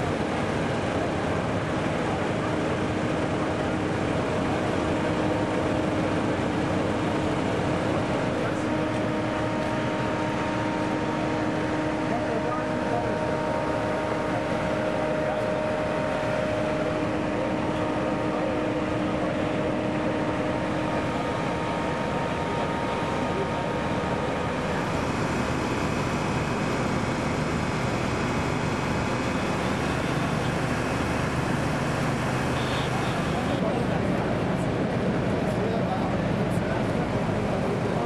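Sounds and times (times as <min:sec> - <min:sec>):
fire engine motors and pumps droning: 0:00.0 - 0:38.0
multi-tone hum: 0:00.0 - 0:38.0.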